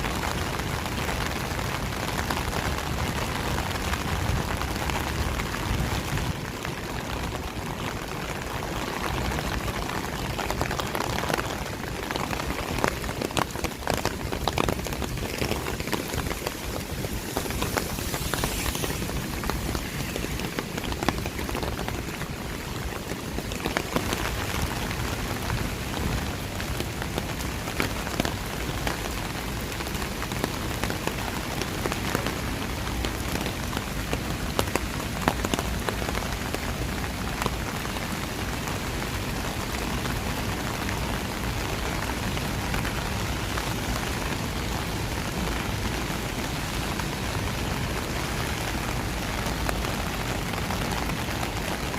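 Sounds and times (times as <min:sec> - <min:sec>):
rain drops on hard surfaces: 0:00.0 - 0:51.9.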